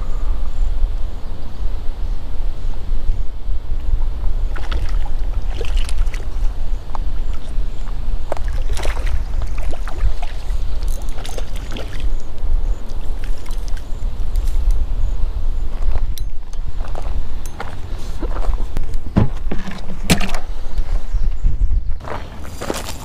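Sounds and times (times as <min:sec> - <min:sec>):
wind buffeting microphone: 0:00.0 - 0:22.8.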